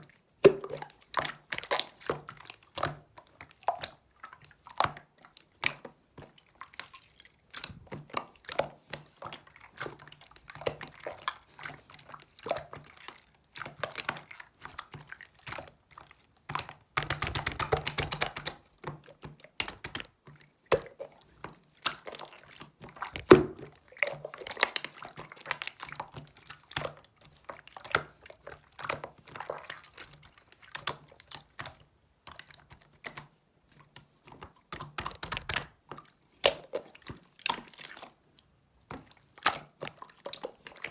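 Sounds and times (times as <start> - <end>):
wet chewing and squishing: 0.0 - 40.9.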